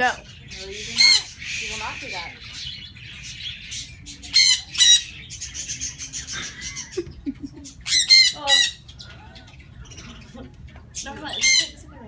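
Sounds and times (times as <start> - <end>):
parrots chattering and chirping: 0.0 - 12.0
parrots squawking: 0.0 - 12.0.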